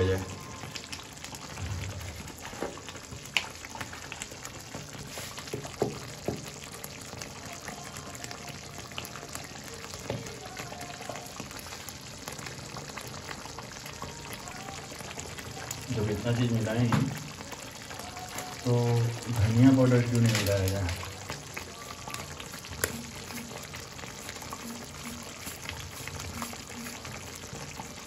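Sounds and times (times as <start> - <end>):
liquid boiling with bubbling hiss: 0.0 - 28.0.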